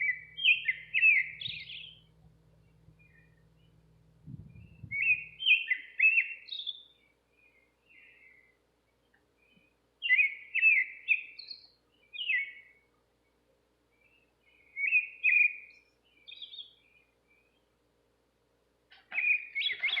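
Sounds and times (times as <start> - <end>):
nightingale singing: 0.0 - 12.8, 14.0 - 17.6, 18.9 - 20.0.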